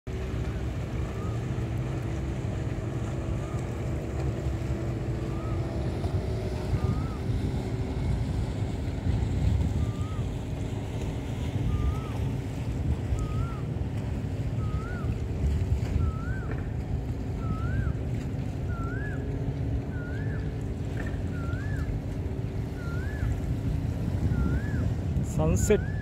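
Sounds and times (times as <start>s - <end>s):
boat engine running: 0.0s - 26.0s
rushing water: 0.1s - 26.0s
wind on microphone: 0.1s - 26.0s.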